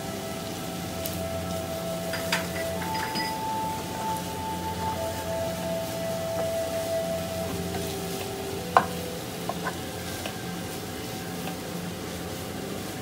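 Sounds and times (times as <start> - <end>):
meat sizzling in oil: 0.1 - 13.0.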